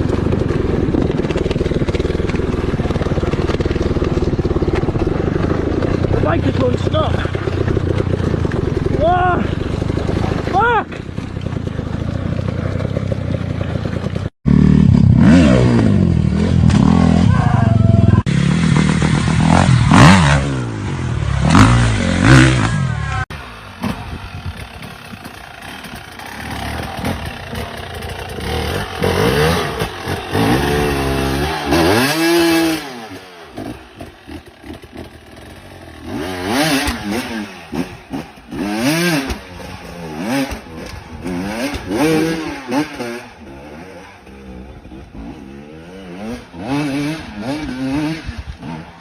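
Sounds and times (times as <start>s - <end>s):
off-road motorbike engines revving: 0.0s - 49.0s.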